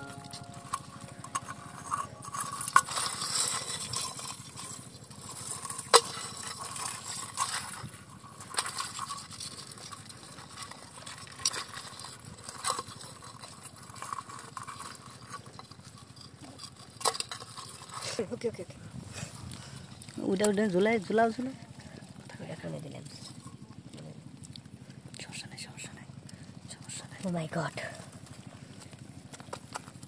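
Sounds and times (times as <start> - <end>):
rustling in dry grass and mud: 0.0 - 30.0.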